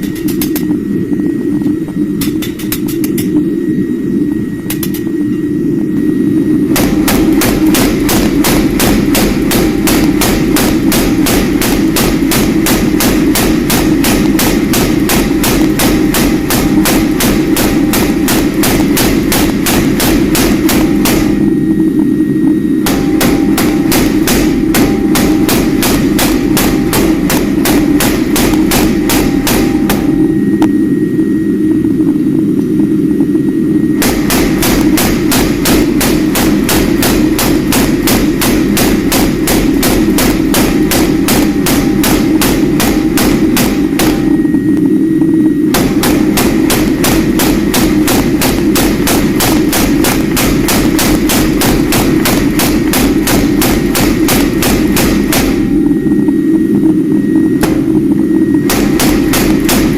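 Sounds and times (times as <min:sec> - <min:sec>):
constant low rumble: 0:00.0 - 0:59.9.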